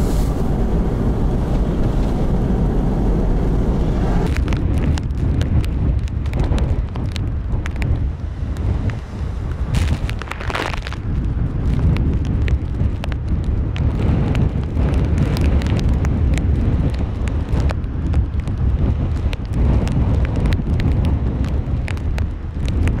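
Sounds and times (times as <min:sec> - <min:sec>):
storm waves breaking on rocks: 0:00.0 - 0:23.0
wind rumbling on microphone: 0:00.0 - 0:23.0.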